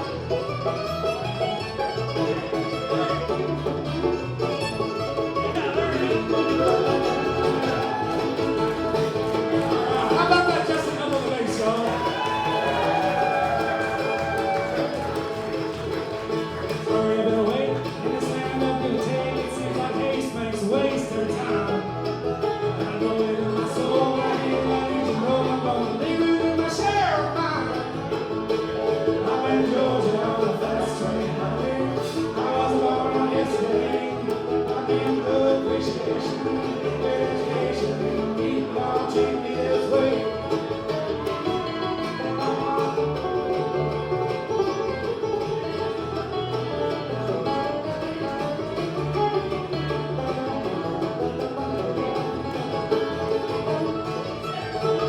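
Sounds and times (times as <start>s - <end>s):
banjo: 0.0s - 55.0s
bluegrass band playing: 0.0s - 55.0s.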